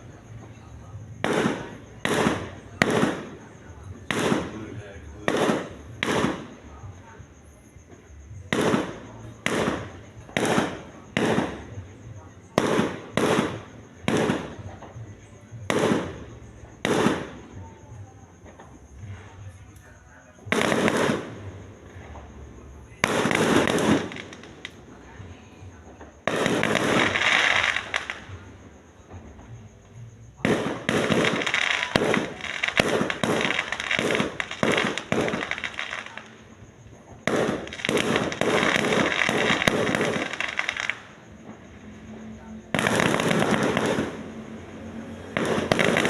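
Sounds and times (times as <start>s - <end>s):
fireworks cracking: 0.0s - 46.0s.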